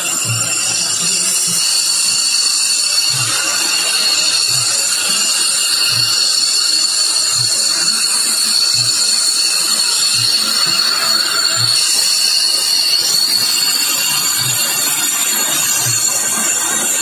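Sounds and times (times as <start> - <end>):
jet engine whine: 0.0 - 17.0.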